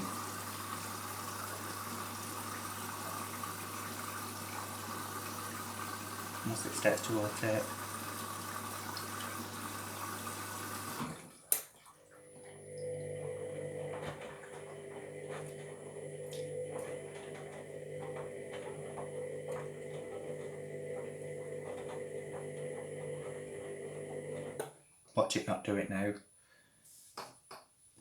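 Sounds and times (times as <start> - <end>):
washing machine hum: 0.0 - 24.6
water filling washing machine: 0.0 - 24.6.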